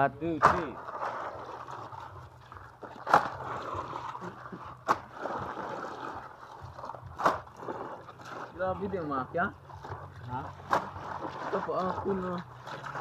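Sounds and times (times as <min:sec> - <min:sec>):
water sloshing in a plastic basin: 0:00.0 - 0:13.0.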